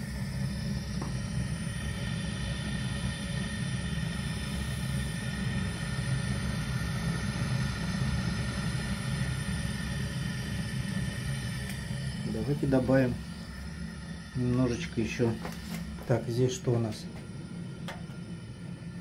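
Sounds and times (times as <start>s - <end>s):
gas burner rumbling and fluttering: 0.0s - 19.0s.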